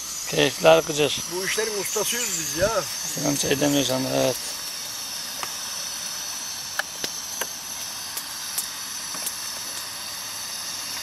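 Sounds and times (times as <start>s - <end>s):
gas stove burner hissing: 0.0s - 11.0s.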